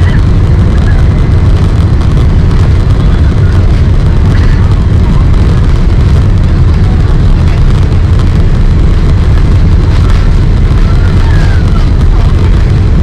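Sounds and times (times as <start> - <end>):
jet engines rumbling at takeoff: 0.0 - 13.0
rushing airflow: 0.0 - 13.0.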